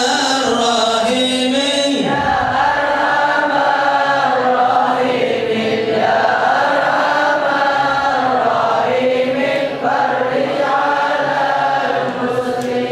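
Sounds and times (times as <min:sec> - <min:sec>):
group of voices chanting: 0:01.9 - 0:12.9.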